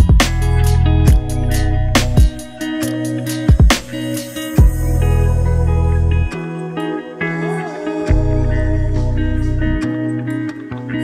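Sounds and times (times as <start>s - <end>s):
low beat: 0.0s - 6.9s, 8.1s - 10.1s
plucked guitar: 0.0s - 11.0s.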